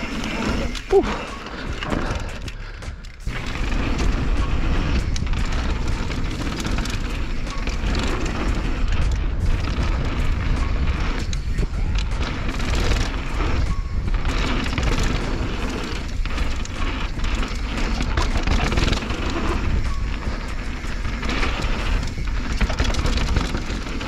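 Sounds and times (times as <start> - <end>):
bike rattling and knocking: 0.0 - 24.0.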